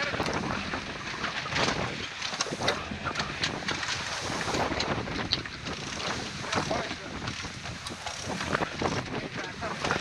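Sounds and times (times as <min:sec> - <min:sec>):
water rushing past hull: 0:00.0 - 0:10.0
wind buffeting microphone: 0:00.0 - 0:10.0.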